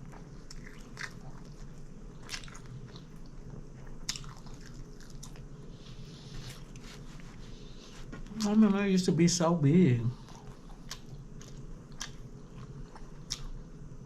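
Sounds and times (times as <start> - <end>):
person chewing: 0.0 - 8.6, 10.2 - 13.6.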